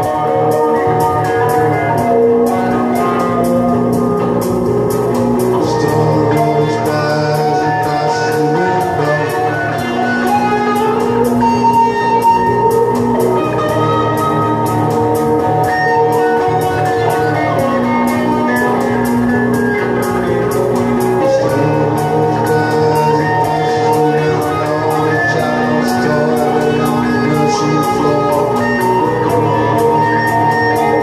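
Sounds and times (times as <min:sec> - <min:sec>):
electric guitar music: 0:00.0 - 0:31.0.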